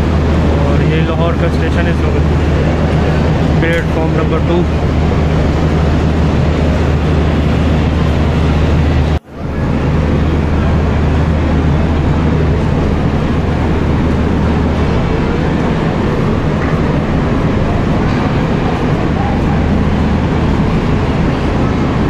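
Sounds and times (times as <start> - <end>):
diesel engine idling: 0.0 - 22.0
platform noise: 0.0 - 22.0.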